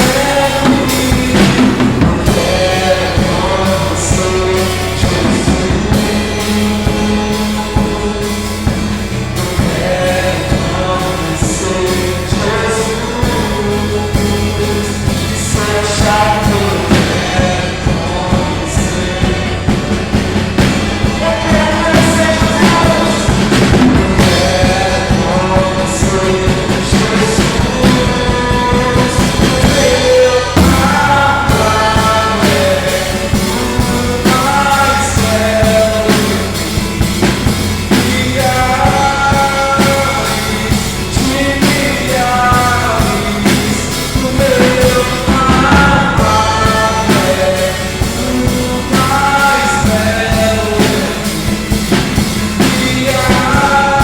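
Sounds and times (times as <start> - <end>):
acoustic guitar: 0.0 - 54.0
drum kit with cymbals: 0.0 - 54.0
person singing: 0.0 - 54.0.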